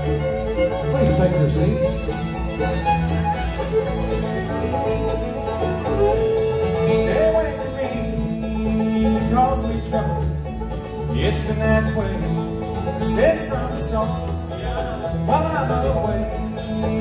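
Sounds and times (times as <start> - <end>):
acoustic guitar: 0.0 - 17.0
banjo: 0.0 - 17.0
fiddle: 0.0 - 17.0
mandolin: 0.0 - 17.0
upright bass: 0.0 - 17.0.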